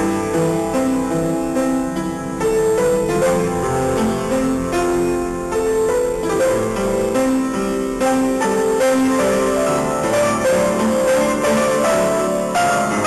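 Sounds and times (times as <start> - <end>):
electronic keyboard piano melody: 0.0 - 13.0.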